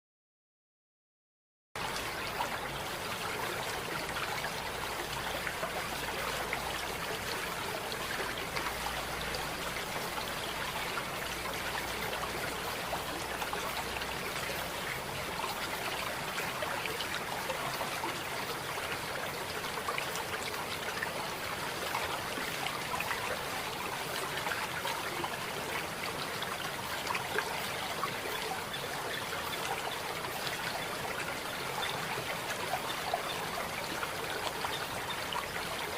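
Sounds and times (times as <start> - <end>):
stream trickling and babbling: 1.8 - 35.9.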